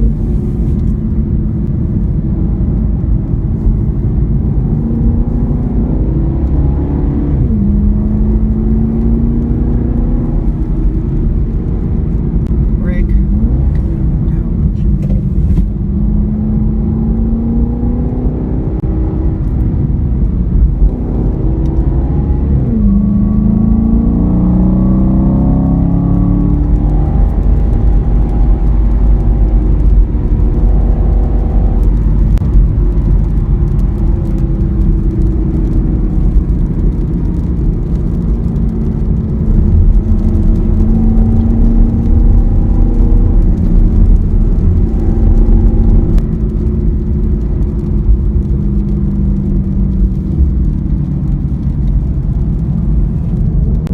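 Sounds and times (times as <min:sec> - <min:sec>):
car engine from inside cabin: 0:00.0 - 0:53.9
road and tyre rumble: 0:00.0 - 0:53.9.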